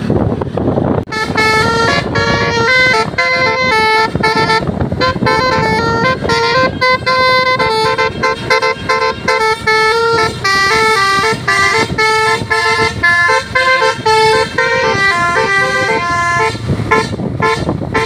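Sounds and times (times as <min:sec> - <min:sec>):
bus horn playing melody: 0:01.0 - 0:18.0.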